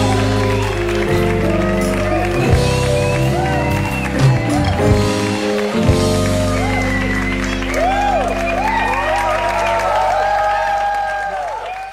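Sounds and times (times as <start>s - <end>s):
audience applauding and cheering: 0.0s - 11.9s.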